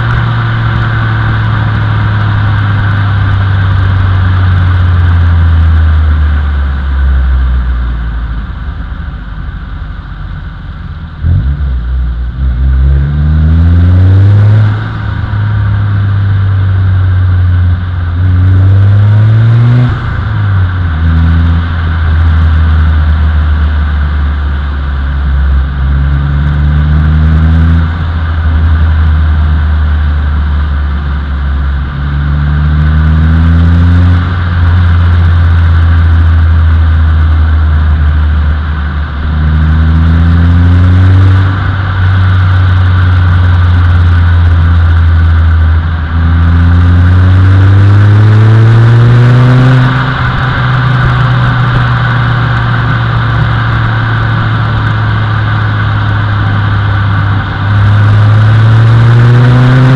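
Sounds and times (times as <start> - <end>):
car engine and exhaust droning: 0.0 - 59.9
wind and road noise: 0.0 - 59.9.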